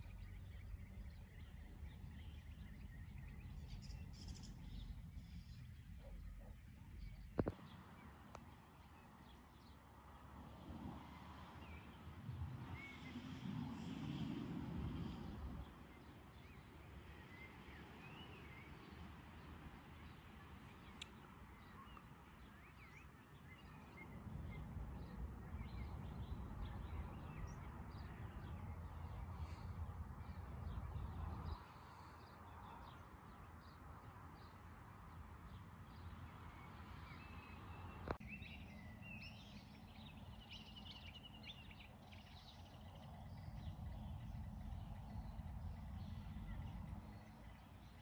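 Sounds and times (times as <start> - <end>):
wind rumble on microphone: 0.0 - 8.6, 9.2 - 48.0.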